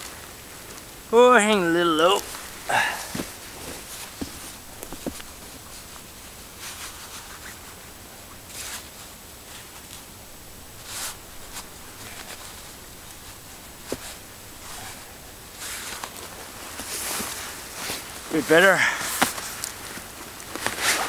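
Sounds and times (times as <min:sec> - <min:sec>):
steady hiss: 0:00.0 - 0:21.0
strap rustling and scraping: 0:00.0 - 0:21.0.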